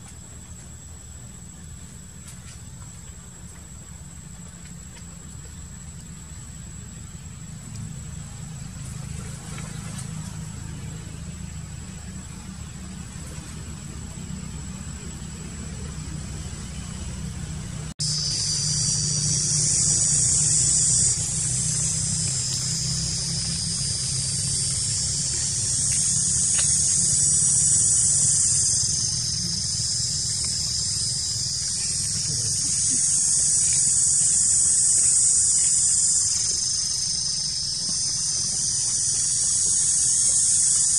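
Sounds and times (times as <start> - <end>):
low steady rumble: 0.0 - 40.9
shrill insect chorus: 0.0 - 40.9.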